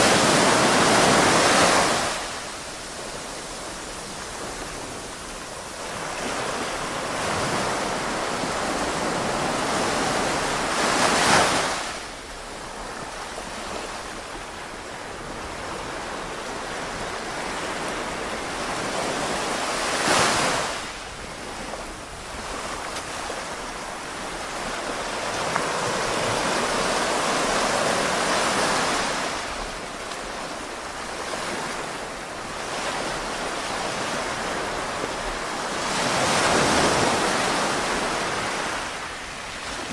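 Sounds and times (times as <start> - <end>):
surf washing onto beach: 0.0 - 39.9.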